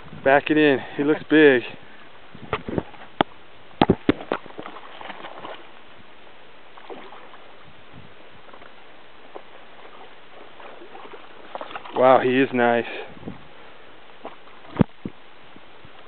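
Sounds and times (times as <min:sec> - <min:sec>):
faint steady hiss: 0:00.0 - 0:16.0
water splashing and lapping: 0:02.5 - 0:16.0.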